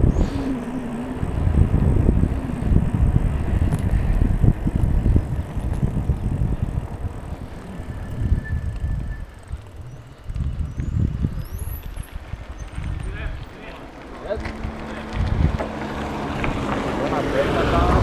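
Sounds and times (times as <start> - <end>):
wind rumble on microphone: 0.0 - 13.6, 14.4 - 18.0
bicycle tyre noise: 0.0 - 18.0.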